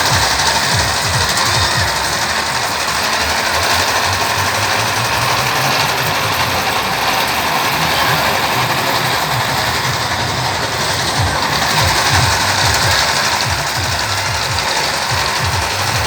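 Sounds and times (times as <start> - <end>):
engine running: 0.0 - 16.0
low uneven rumble: 0.0 - 16.0.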